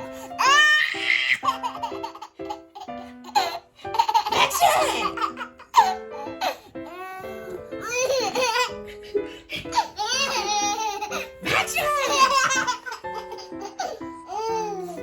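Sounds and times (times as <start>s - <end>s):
light background music: 0.0s - 15.0s
baby laughing: 0.2s - 7.0s, 7.8s - 15.0s.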